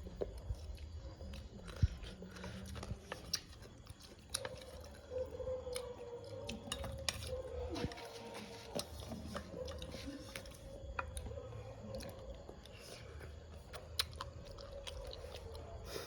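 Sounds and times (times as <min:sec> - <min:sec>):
person chewing with wet smacks: 0:00.0 - 0:16.0.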